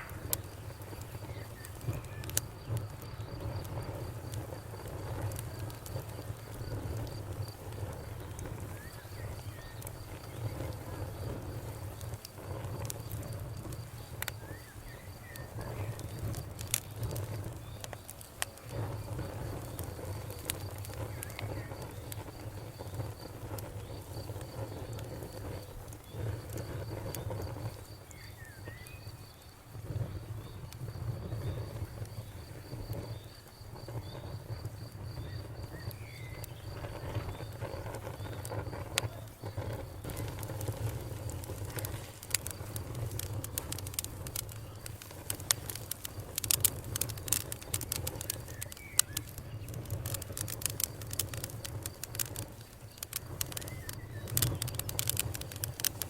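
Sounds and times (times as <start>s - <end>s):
campfire crackling and popping: 0.0s - 56.0s
low fire rumble: 0.0s - 56.0s.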